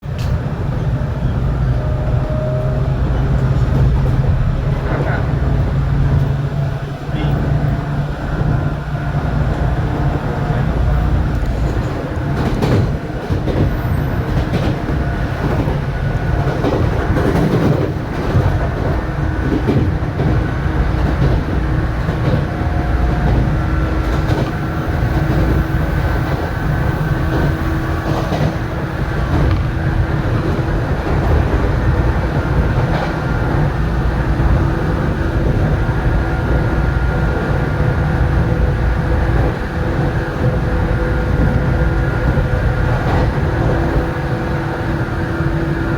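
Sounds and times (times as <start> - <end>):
train rumbling at speed: 0.0 - 45.9.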